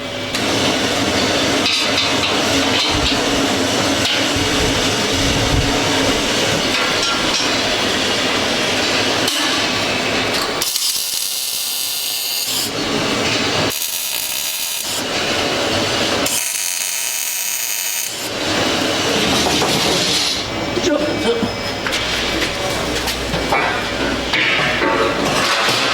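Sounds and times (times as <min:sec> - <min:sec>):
metalworking power tools running: 0:00.0 - 0:25.9.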